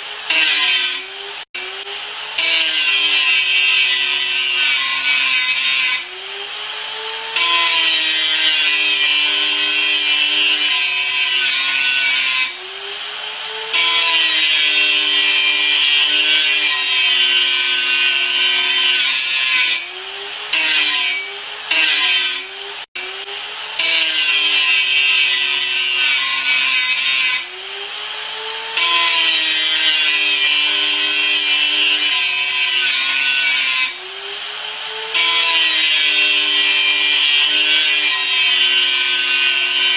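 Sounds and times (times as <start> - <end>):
angle grinder grinding: 0.0 - 39.9.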